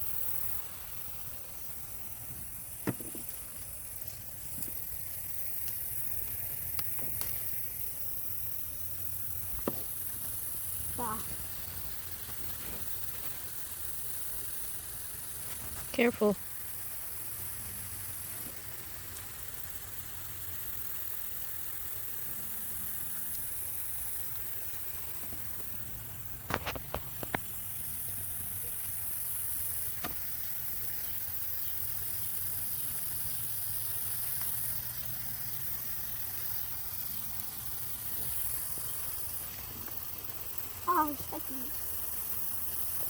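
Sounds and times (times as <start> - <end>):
steady high hiss: 0.0 - 43.0.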